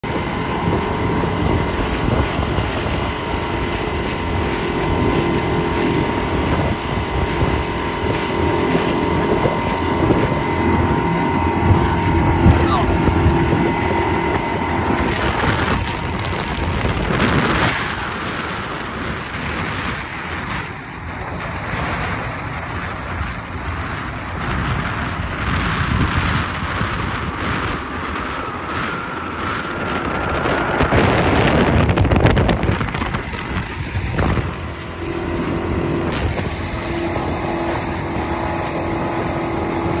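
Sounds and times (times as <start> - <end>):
outboard motor running: 0.0 - 40.0
water rushing past hull: 0.0 - 40.0
wind buffeting microphone: 0.0 - 40.0.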